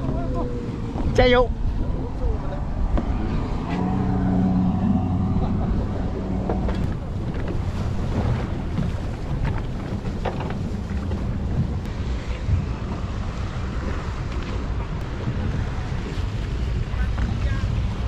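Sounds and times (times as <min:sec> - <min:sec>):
waves washing against hull: 0:00.0 - 0:18.0
wind buffeting microphone: 0:00.0 - 0:18.0.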